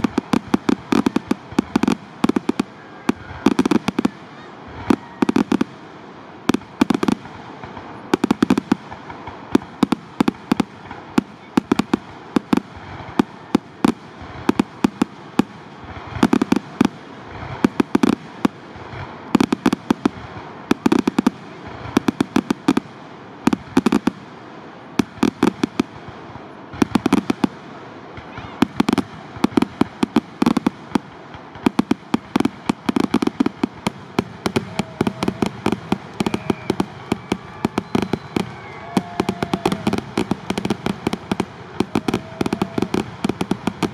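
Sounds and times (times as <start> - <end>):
fireworks shells bursting: 0.0 - 24.2, 28.1 - 43.9.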